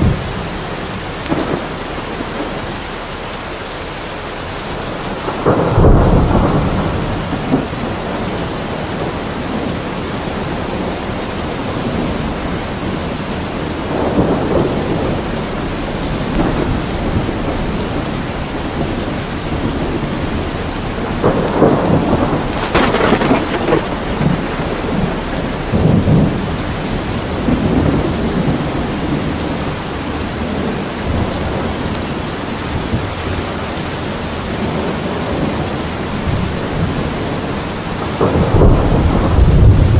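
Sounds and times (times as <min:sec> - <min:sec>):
thunder rolling: 0:00.0 - 0:03.0, 0:04.5 - 0:33.5, 0:34.4 - 0:39.9
heavy rain falling: 0:00.0 - 0:39.9.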